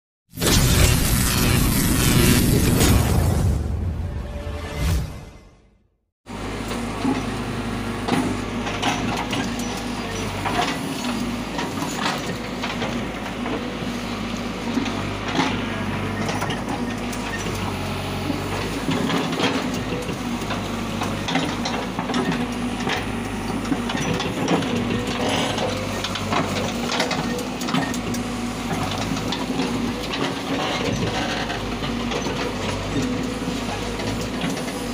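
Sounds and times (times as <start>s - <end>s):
diesel engine under load: 6.3s - 34.9s.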